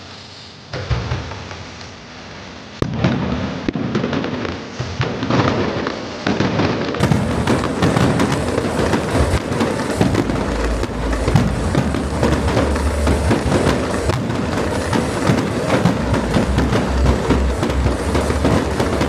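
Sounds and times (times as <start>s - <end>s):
fireworks crackling and banging: 0.0s - 19.0s.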